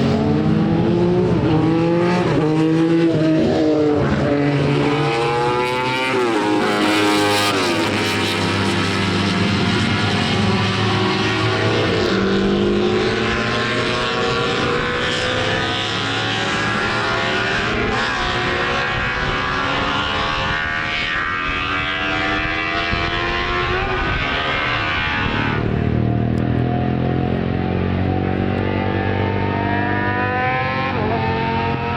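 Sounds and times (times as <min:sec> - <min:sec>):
racing motorcycle engines revving: 0:00.0 - 0:31.9.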